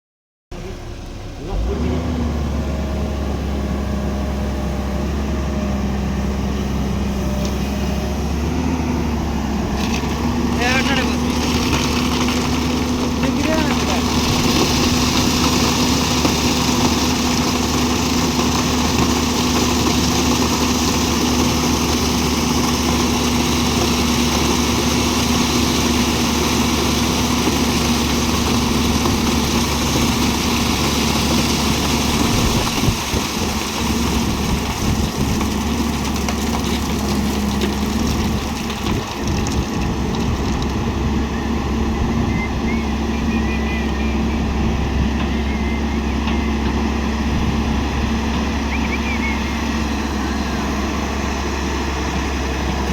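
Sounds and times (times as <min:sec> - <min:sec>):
excavator diesel engine running: 0:00.5 - 0:52.9.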